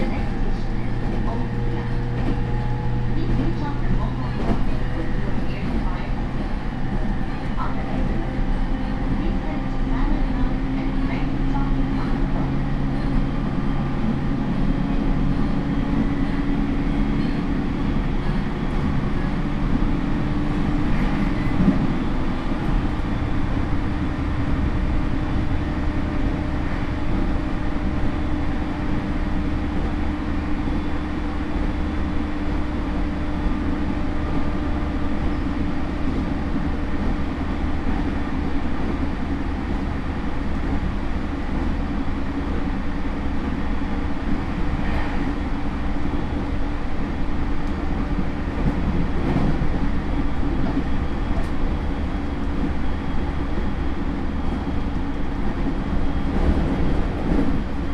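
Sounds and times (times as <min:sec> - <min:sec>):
wheel and rail rumble: 0:00.0 - 0:57.9.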